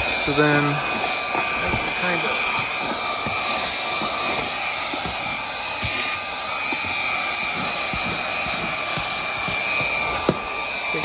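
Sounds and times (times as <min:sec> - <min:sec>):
vacuum motor whine and air rush: 0:00.0 - 0:11.0.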